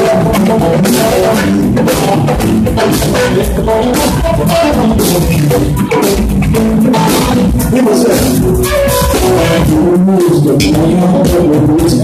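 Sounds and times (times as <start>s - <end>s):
bass guitar: 0.0s - 12.0s
drum kit beat: 0.0s - 12.0s
electric guitar: 0.0s - 12.0s.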